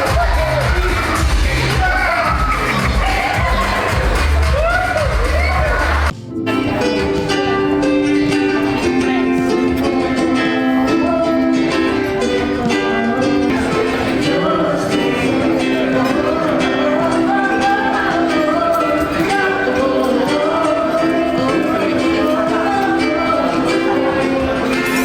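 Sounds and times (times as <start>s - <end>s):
strummed ukulele music: 0.0s - 25.0s.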